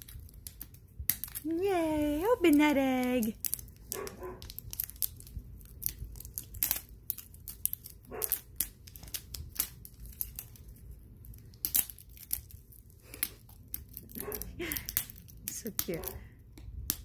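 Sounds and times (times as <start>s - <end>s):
wrapper crinkling and tearing: 0.0s - 16.2s.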